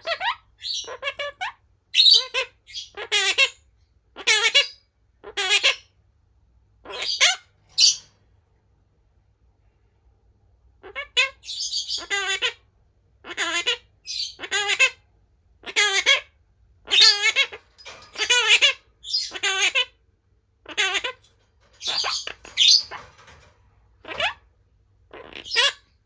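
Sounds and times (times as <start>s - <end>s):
parakeet calls and chatter: 0.0s - 6.0s, 6.7s - 8.3s, 10.7s - 26.0s.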